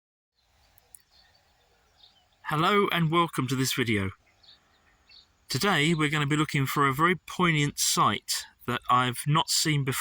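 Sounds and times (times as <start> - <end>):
faint bird chirps: 0.4 - 8.9.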